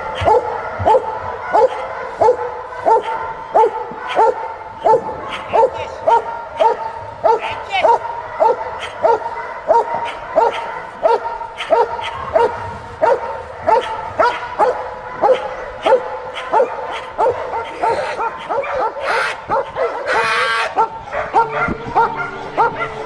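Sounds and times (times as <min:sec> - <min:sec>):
dog barking: 0:00.0 - 0:23.0.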